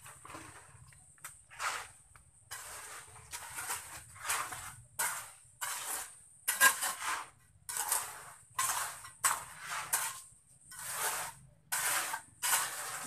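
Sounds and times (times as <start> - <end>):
trowel scraping over cement: 0.0 - 13.0.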